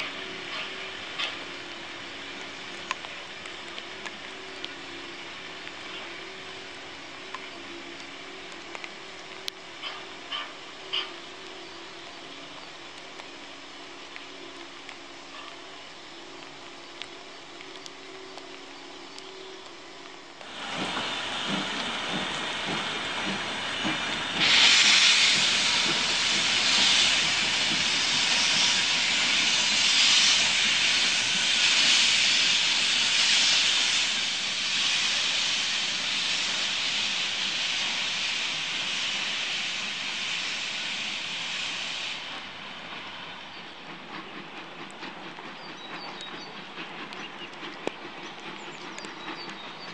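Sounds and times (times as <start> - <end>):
steam locomotive chuffs: 0.0 - 12.6, 20.4 - 49.9
loud hiss of steam: 0.0 - 17.5, 20.4 - 49.9.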